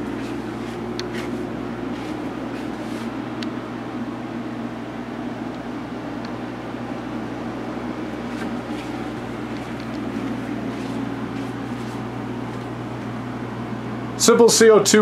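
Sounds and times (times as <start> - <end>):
fans humming: 0.0 - 15.0.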